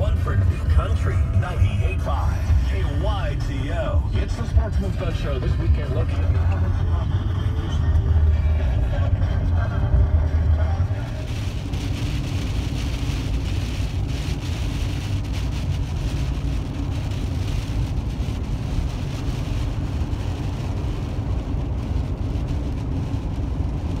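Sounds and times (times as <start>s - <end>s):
tyre and engine rumble: 0.0s - 24.0s.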